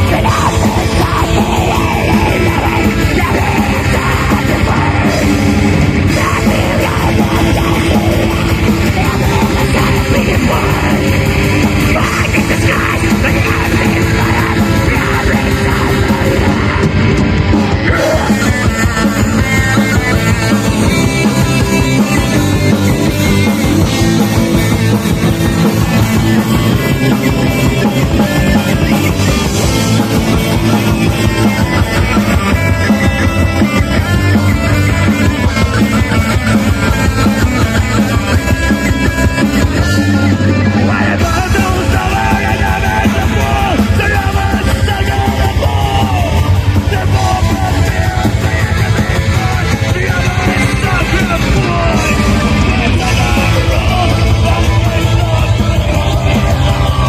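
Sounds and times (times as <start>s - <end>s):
live metal band playing: 0.0s - 57.0s
shouted vocals: 0.0s - 57.0s.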